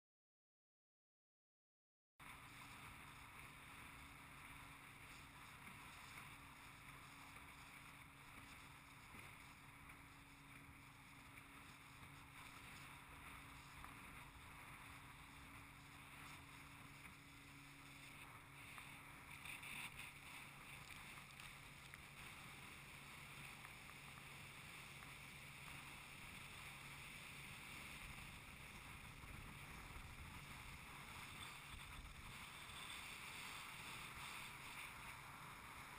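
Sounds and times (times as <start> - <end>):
motorboat hum: 2.2 - 35.9
water rushing along hull: 2.2 - 35.9.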